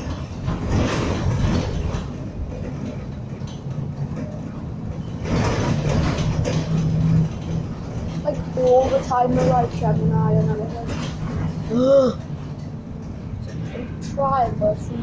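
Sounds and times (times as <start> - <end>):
bus engine droning hum: 0.0 - 15.0
interior rattles: 0.0 - 15.0.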